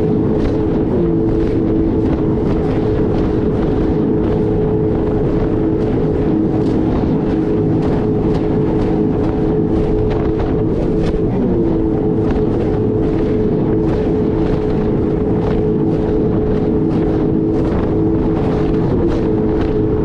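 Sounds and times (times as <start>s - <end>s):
jet ski engine running: 0.0s - 20.0s
water slapping against hull: 0.0s - 20.0s.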